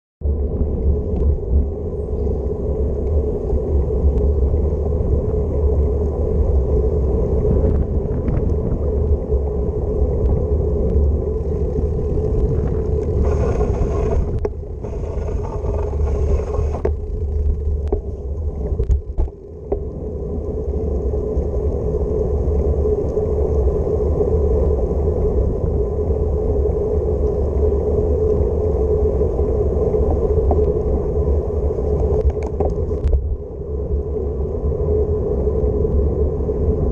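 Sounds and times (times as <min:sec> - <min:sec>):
road noise: 0:00.2 - 0:36.1
wind rumbling on microphone: 0:00.2 - 0:36.9.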